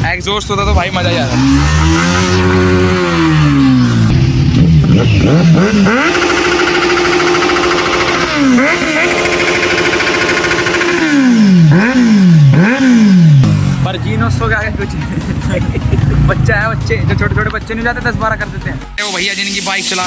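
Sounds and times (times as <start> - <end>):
motorcycle engine revving: 0.0 - 19.5.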